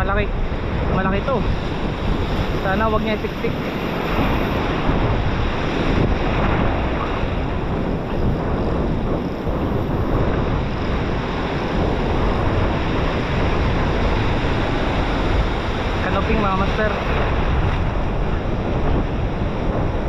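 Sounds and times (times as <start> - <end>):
heavy surf breaking: 0.0 - 20.0
wind buffeting microphone: 0.0 - 20.0.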